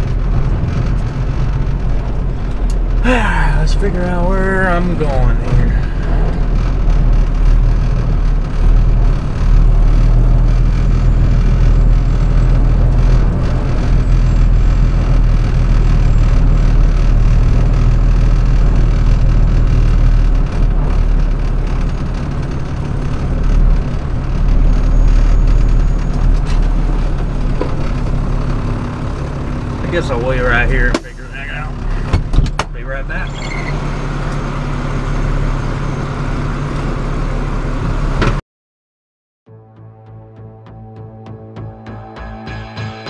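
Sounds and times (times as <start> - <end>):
truck engine low rumble: 0.0 - 38.4.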